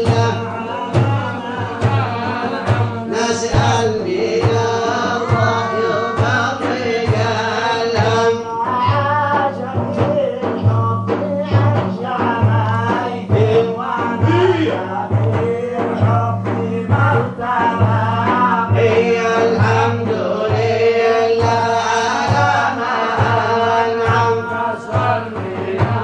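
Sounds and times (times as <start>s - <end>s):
man singing devotional song: 0.0s - 26.0s
steady drum beat: 0.0s - 26.0s.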